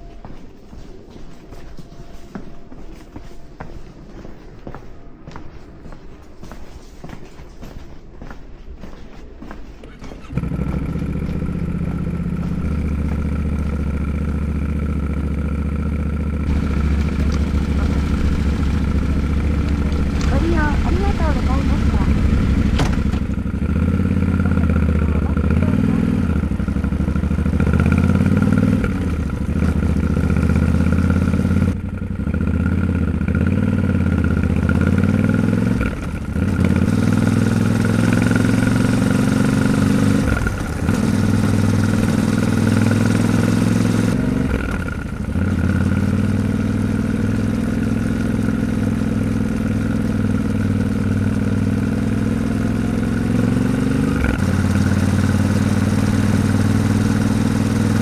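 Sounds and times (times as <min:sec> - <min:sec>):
motorcycle engine running: 0:09.8 - 0:58.0.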